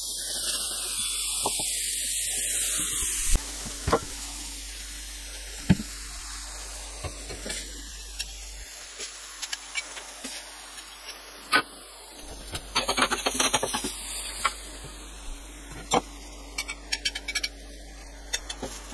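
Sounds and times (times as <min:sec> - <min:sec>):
burger patties sizzling on griddle: 0:00.0 - 0:18.9.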